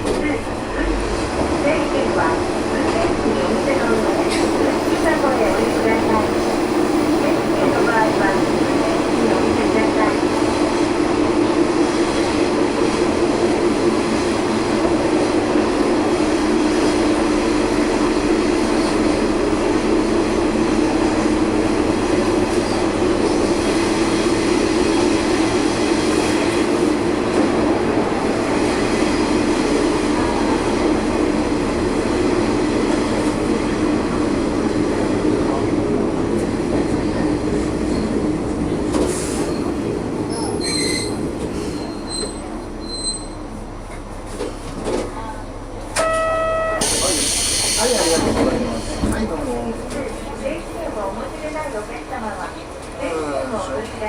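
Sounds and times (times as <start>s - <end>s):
train engine and wheels droning: 0.0s - 54.0s.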